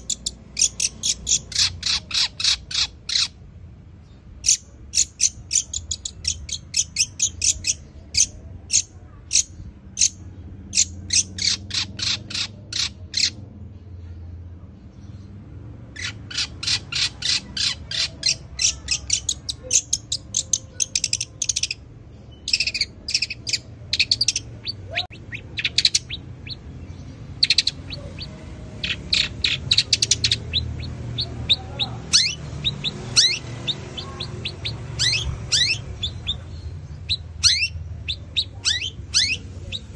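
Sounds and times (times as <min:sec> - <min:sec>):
bird singing high chirps: 0:00.0 - 0:03.4, 0:04.0 - 0:13.4, 0:16.0 - 0:39.9.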